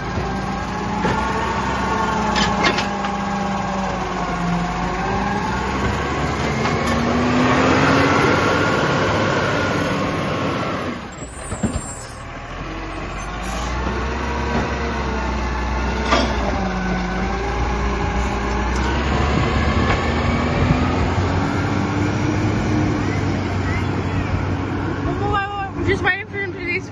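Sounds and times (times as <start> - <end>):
garbage truck engine running: 0.0 - 26.9.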